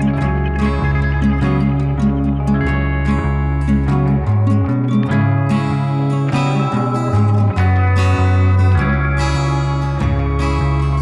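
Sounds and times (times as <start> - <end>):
held bass line: 0.0 - 11.0
plucked string music: 0.0 - 11.0.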